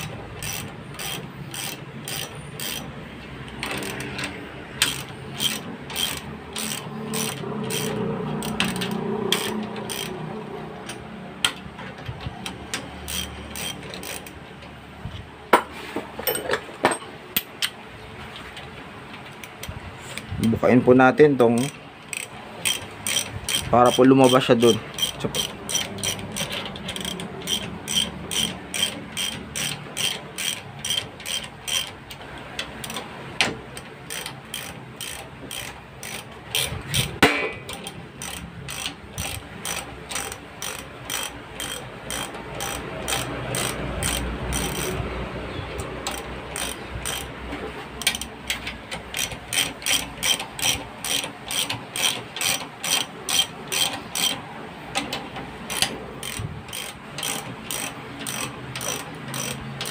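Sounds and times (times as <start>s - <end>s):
ratchet wrench clicking: 0.0s - 15.3s, 19.3s - 59.9s.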